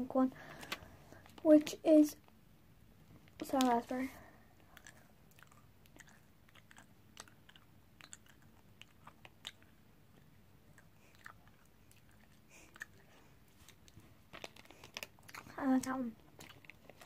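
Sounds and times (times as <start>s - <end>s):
child chewing candy: 3.2s - 17.0s.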